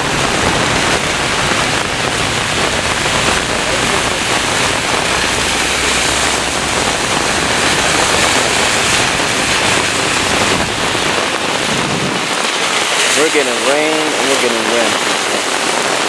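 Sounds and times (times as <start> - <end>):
heavy rain hissing: 0.0 - 16.0
wind rumbling on microphone: 0.0 - 16.0.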